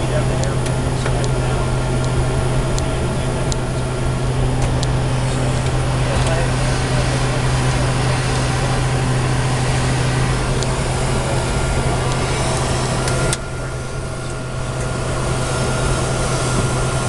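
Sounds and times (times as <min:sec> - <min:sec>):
constant low hum: 0:00.0 - 0:17.0
jet engines: 0:00.0 - 0:17.0.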